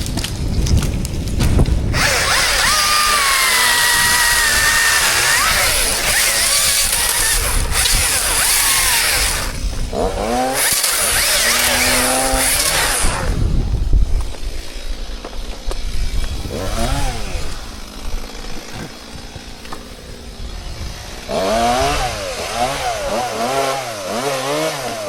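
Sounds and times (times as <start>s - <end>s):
chainsaw cutting at high throttle: 1.5s - 25.0s.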